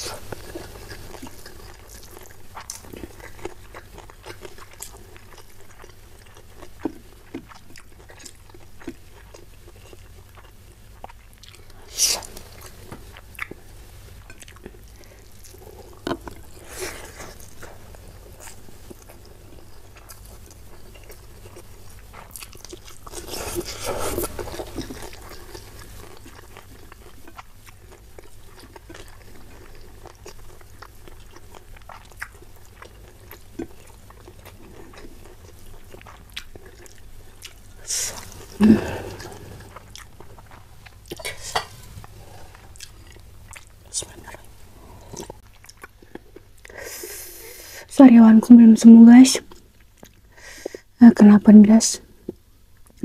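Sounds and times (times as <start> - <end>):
chewing and mouth sounds: 0.0 - 13.6, 14.2 - 47.2, 49.4 - 50.8.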